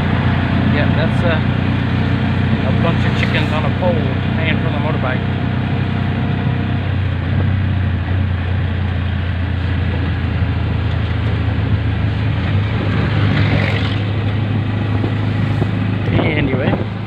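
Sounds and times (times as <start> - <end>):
vehicle engine hum: 0.0 - 17.0
wind and tyre noise: 0.0 - 17.0.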